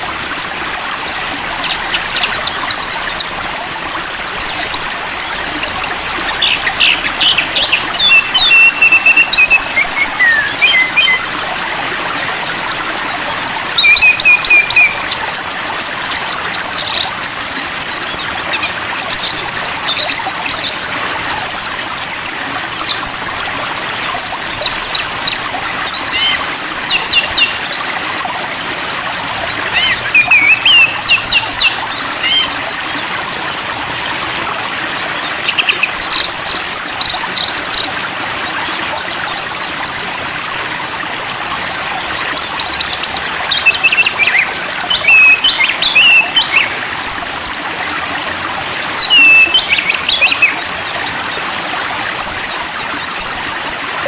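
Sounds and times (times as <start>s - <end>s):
songbirds chirping: 0.0s - 54.0s
trickle of running water: 0.0s - 54.0s.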